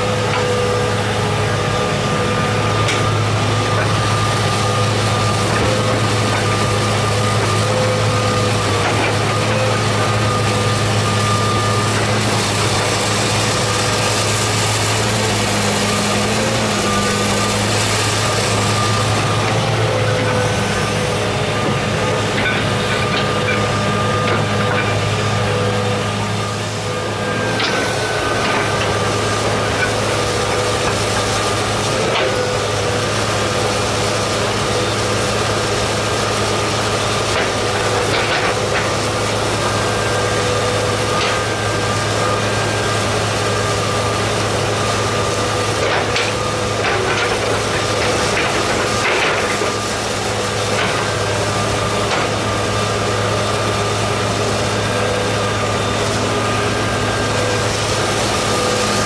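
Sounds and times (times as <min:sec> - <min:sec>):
excavator diesel engine running: 0:00.0 - 0:59.0
hydraulic whine: 0:00.0 - 0:59.0.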